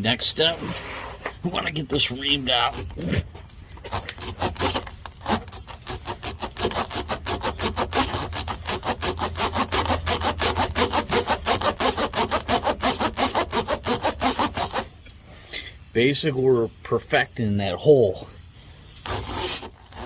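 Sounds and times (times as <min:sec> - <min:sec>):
reamer rasping in tire puncture: 0:00.2 - 0:15.0, 0:15.8 - 0:20.0.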